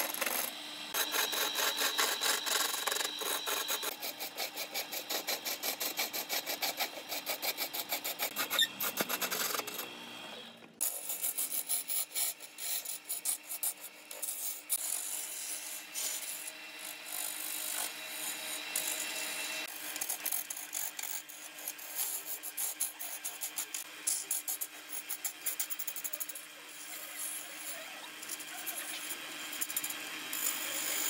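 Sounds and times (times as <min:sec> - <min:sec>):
faint lathe hum: 0:00.0 - 0:31.0
turning tool scraping wood: 0:00.0 - 0:31.0.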